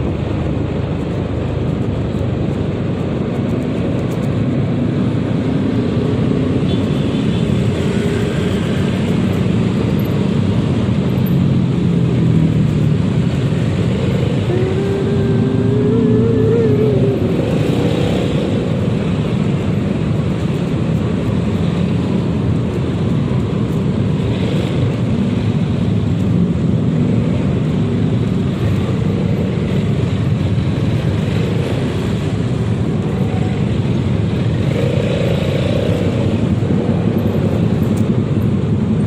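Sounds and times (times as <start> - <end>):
road noise: 0.0 - 39.0
rushing wind: 0.0 - 39.0
scooter engine running: 0.0 - 39.0.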